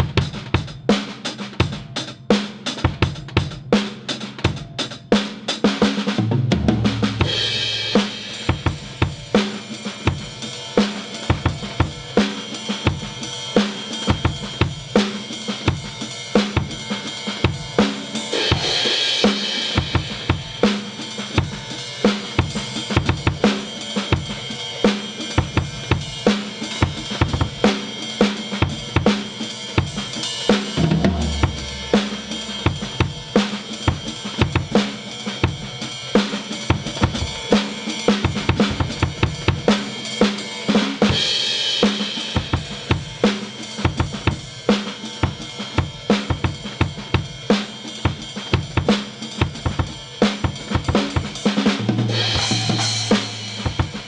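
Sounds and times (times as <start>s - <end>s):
drum-kit beat: 0.0s - 54.0s.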